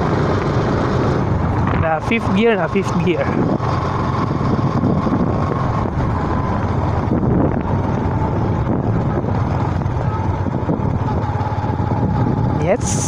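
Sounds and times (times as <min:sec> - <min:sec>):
motorcycle engine drone: 0:00.0 - 0:13.0
wind noise on microphone: 0:00.0 - 0:13.0.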